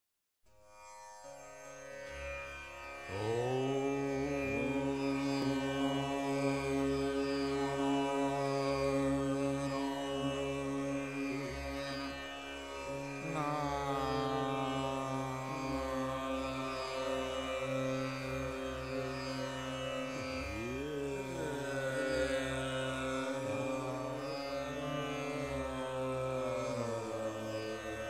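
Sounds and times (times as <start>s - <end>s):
tanpura drone: 0.6s - 28.0s
man singing long held notes: 3.1s - 12.0s, 13.2s - 28.0s.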